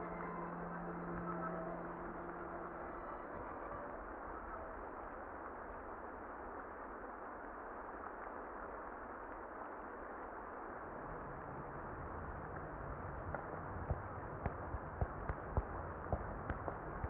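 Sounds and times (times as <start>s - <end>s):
faint low rumble: 0.0s - 17.0s
muffled rain: 0.0s - 17.0s.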